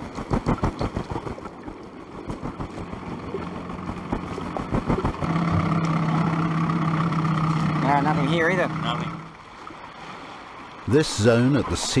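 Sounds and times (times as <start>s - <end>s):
boat engine hum: 0.0s - 12.0s.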